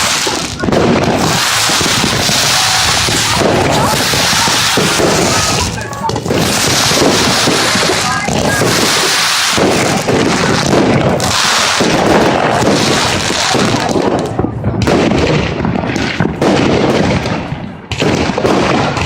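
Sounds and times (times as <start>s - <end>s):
fireworks banging and crackling: 0.0s - 19.0s
people's voices: 0.0s - 19.0s.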